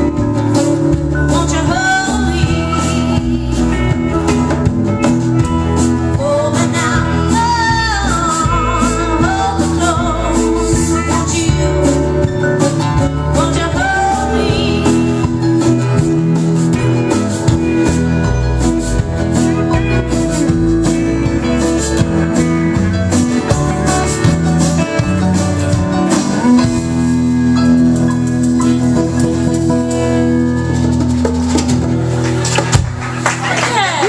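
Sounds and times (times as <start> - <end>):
instrumental live band: 0.0 - 34.0.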